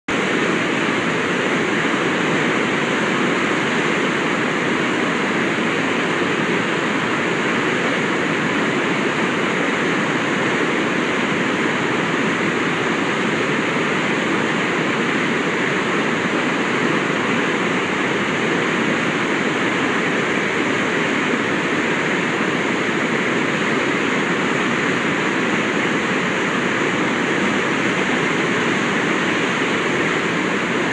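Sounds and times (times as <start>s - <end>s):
waterfall rushing over rock: 0.1s - 30.9s.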